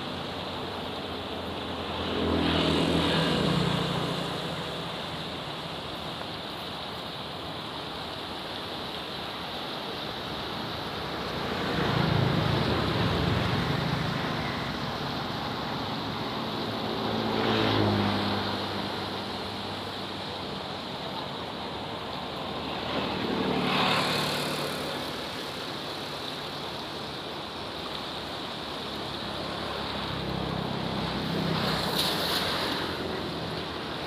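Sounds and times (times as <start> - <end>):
fast-flowing river rushing: 0.0 - 34.0.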